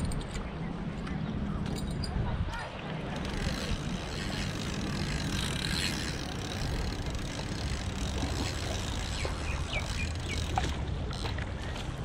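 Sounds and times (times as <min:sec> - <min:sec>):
sea water on rocky shore: 0:00.0 - 0:12.0
wind rumble on microphone: 0:00.0 - 0:12.0.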